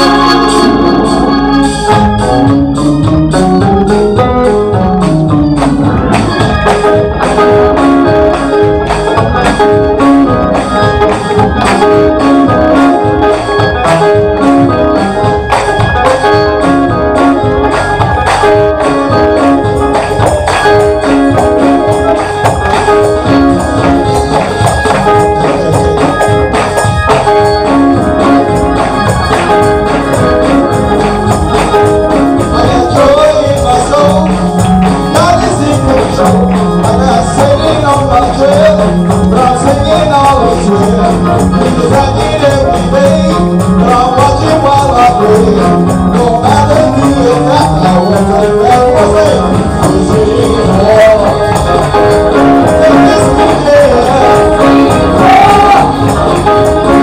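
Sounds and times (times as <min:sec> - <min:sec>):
live praise music with beat: 0:00.0 - 0:57.0.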